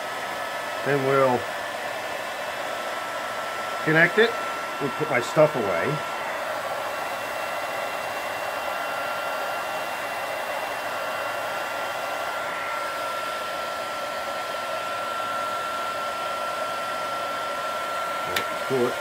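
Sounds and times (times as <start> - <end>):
heat gun blowing air: 0.0 - 19.0.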